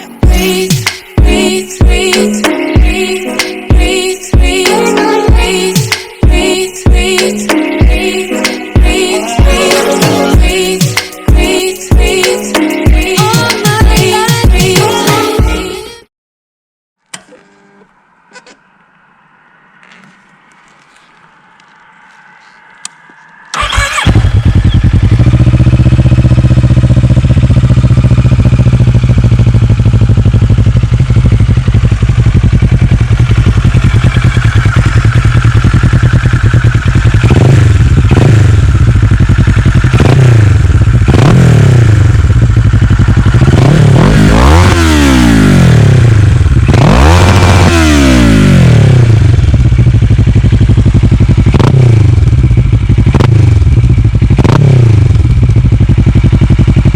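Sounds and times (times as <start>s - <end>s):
motorcycle engine idling and revving: 0.0s - 15.0s, 17.2s - 56.9s.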